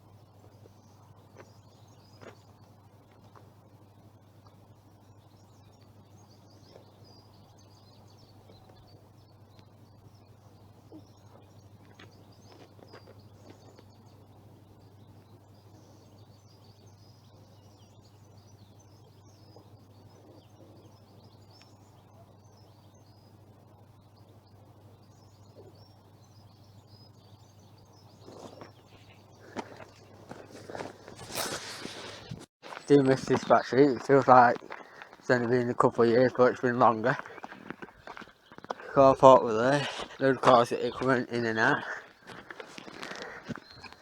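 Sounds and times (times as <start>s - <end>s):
low background hum: 0.0s - 44.0s
small birds chirping: 0.0s - 44.0s.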